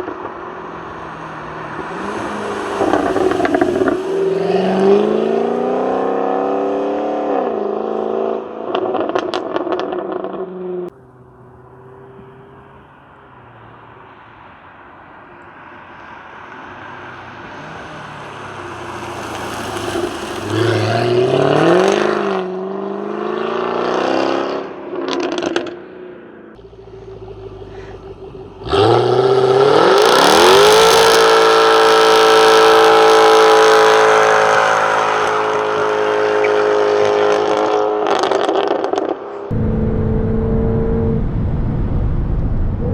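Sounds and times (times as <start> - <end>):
car engine revving and accelerating: 0.0 - 13.0, 16.8 - 25.8, 26.6 - 42.9.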